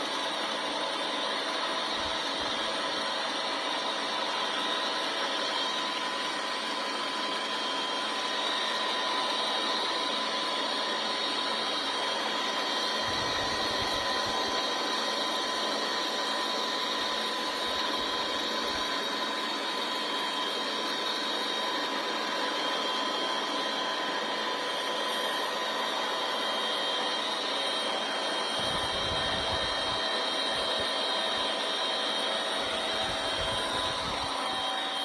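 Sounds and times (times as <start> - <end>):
helicopter engine whine: 6.5 - 35.0.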